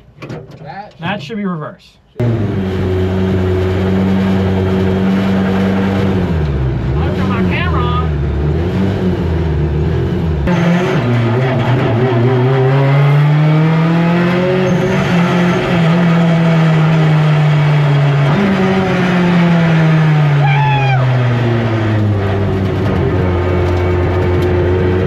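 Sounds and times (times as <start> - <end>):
race car engine revving: 2.2 - 25.0.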